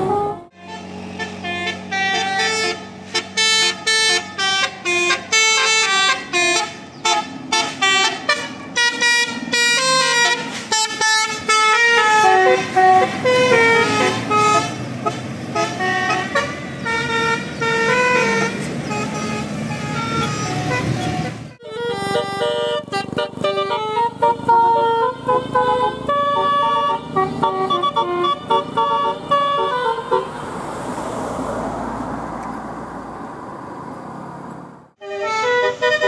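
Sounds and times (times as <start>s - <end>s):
vehicle melody horn: 0.0s - 30.4s, 35.0s - 36.0s
road traffic rumble: 0.0s - 36.0s.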